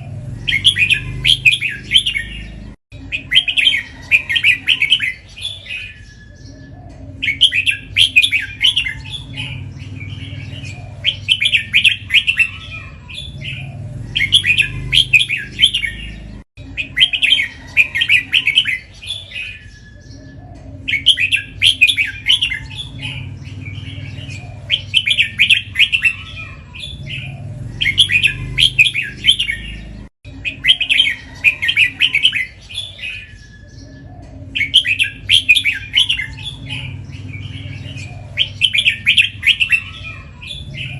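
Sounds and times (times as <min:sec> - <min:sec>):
bulbul singing whistled phrases: 0:00.0 - 0:40.9.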